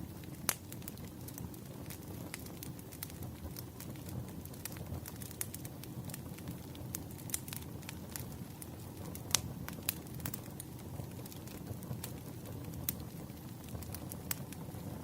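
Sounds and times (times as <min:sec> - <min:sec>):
low rumble of flame: 0:00.0 - 0:15.0
wood crackling and popping: 0:00.0 - 0:15.0.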